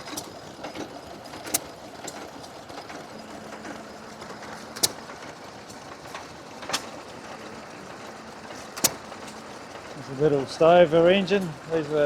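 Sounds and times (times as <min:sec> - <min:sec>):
stationary engine running: 0:00.0 - 0:12.0.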